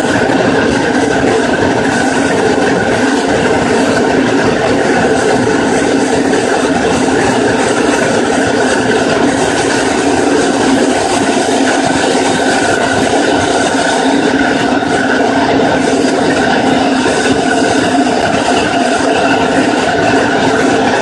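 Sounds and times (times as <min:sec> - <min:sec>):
subway train wheels rumbling on rail: 0:00.0 - 0:21.0.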